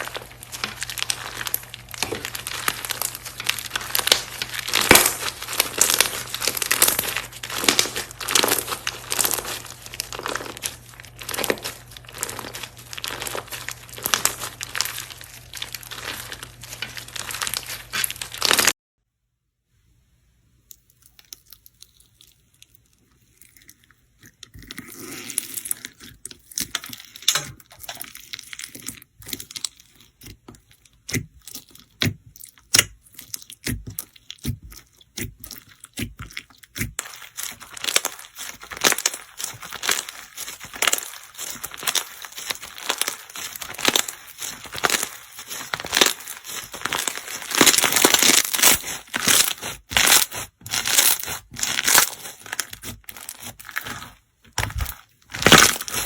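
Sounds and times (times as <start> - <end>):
slime crackling and popping: 0.0 - 18.8, 20.7 - 56.0.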